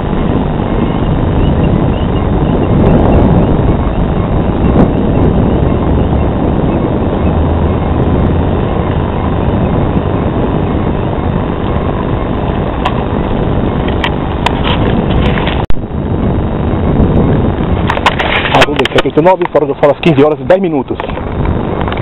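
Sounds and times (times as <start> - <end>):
airliner engines rumbling: 0.0 - 22.0.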